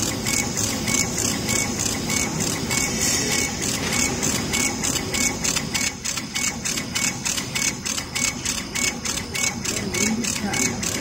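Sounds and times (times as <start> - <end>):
laser cutter pulsing hiss: 0.0 - 11.0.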